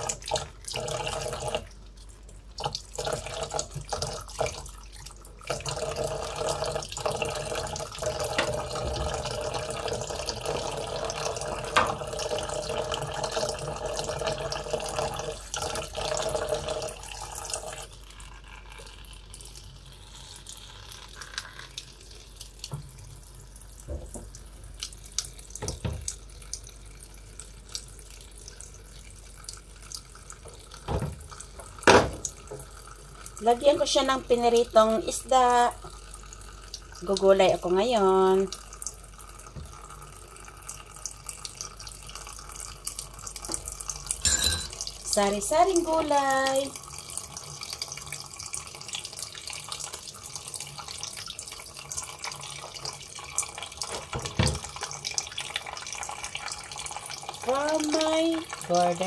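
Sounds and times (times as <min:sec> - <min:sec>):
tap water running into basin: 0:00.0 - 0:59.0.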